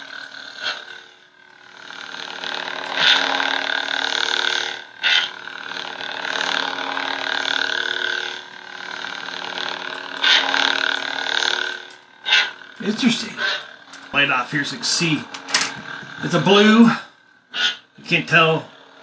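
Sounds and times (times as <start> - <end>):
electronic lightsaber hum: 0.0 - 19.0.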